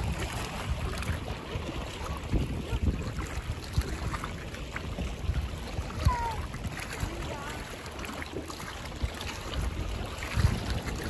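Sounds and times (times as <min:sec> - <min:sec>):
water splashing and lapping: 0:00.0 - 0:11.0
wind on microphone: 0:00.0 - 0:11.0.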